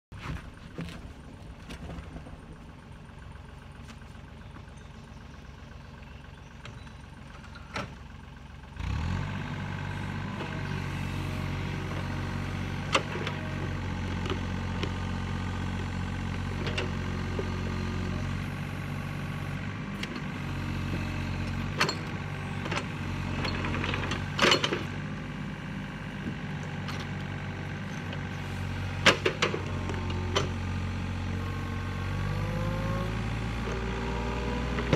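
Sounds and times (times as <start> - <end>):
excavator diesel engine: 0.2 - 34.9.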